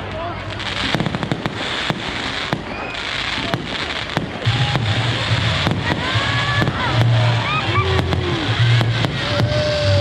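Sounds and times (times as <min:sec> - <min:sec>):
fireworks bangs: 0:00.0 - 0:10.0
fireworks crackling hiss: 0:00.0 - 0:10.0.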